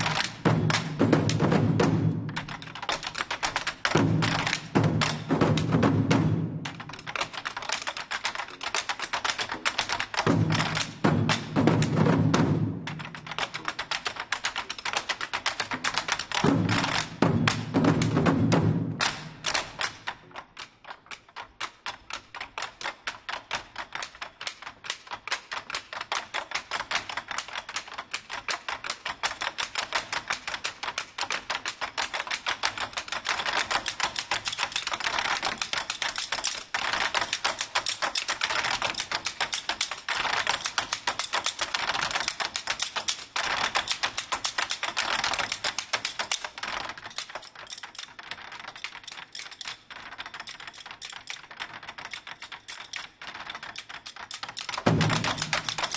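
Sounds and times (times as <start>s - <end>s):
drumsticks clicking on drum rims: 0.0s - 55.9s.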